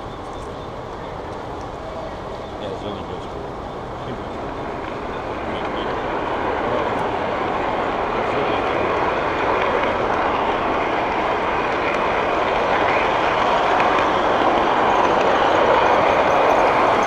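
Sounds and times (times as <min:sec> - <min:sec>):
model train running rumble: 0:00.0 - 0:17.0.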